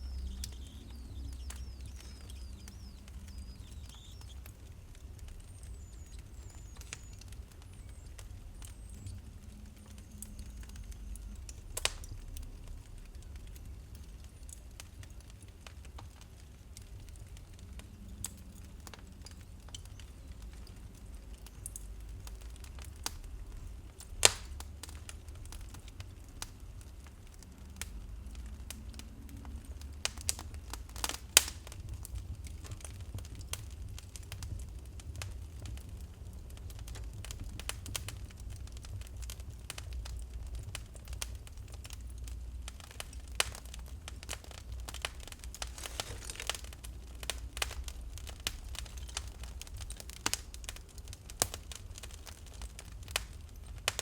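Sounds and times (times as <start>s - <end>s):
fire crackling: 0.0s - 54.0s
wood fire rumbling: 0.0s - 54.0s
loud fire pops: 0.1s - 12.8s, 13.6s - 54.0s.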